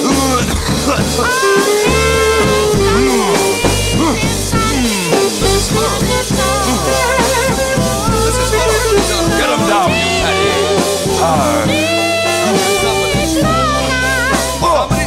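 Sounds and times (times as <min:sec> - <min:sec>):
saxophones playing sliding notes: 0:00.0 - 0:14.6
low band accompaniment: 0:00.0 - 0:15.0.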